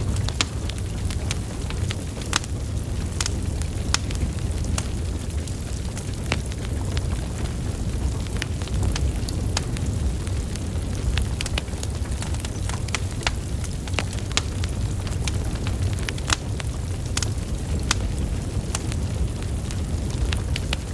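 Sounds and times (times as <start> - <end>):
logs crackling and popping: 0.0 - 20.9
rumble of flames: 0.0 - 20.9.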